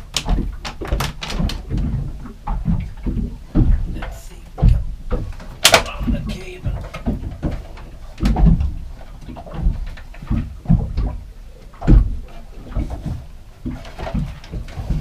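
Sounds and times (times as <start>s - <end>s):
low thumps and knocks: 0.0s - 15.0s.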